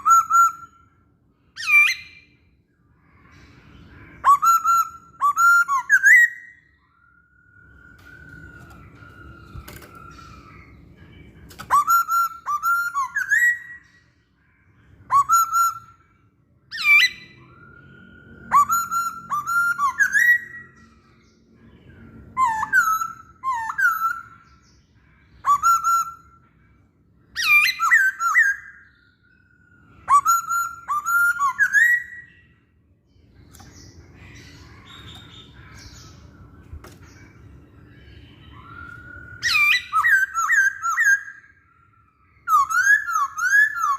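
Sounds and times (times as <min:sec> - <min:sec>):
bird singing rising whistled notes: 0:00.0 - 0:43.9.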